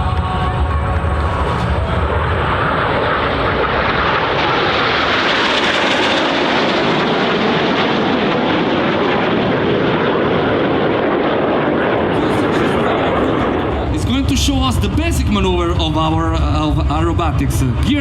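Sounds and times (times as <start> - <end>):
jets flying past roaring: 0.0 - 18.0.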